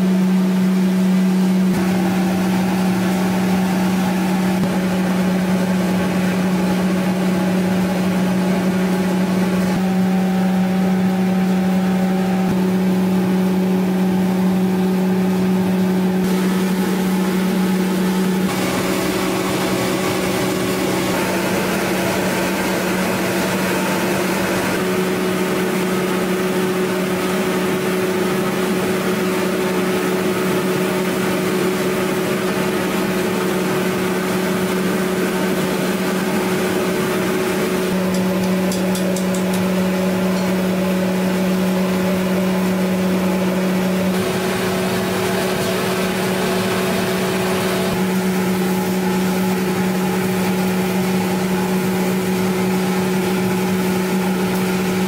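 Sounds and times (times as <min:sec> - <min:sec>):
processing machinery humming: 0:00.0 - 0:55.0.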